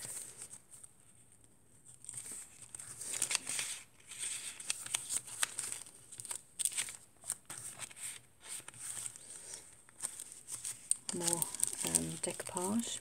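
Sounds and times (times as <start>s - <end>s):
paper pages rustling and crinkling: 0.0s - 13.0s.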